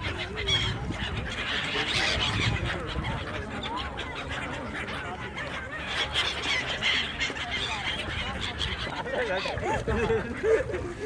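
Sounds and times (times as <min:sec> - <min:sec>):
flock of birds honking: 0:00.0 - 0:11.0.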